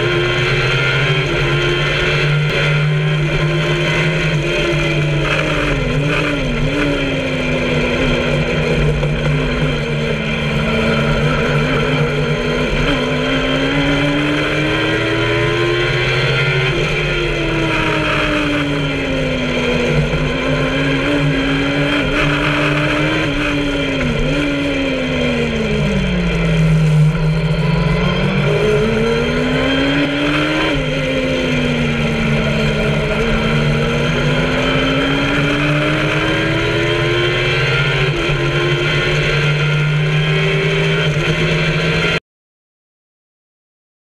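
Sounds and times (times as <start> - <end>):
motorcycle engine at speed: 0.0 - 42.2.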